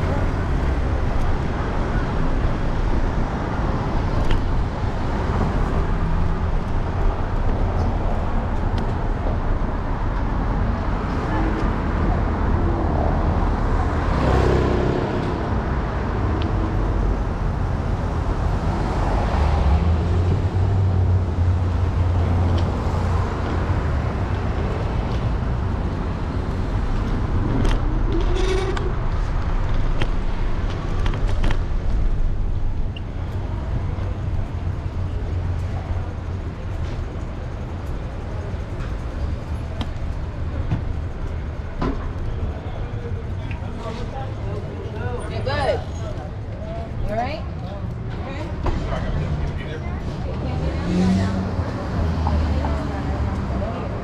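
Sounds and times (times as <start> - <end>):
city street traffic: 0.0 - 54.0.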